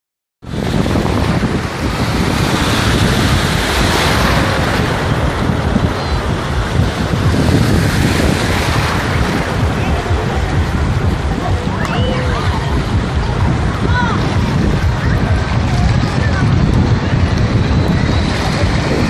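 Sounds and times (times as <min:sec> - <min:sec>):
wind buffeting microphone: 0:00.4 - 0:19.0.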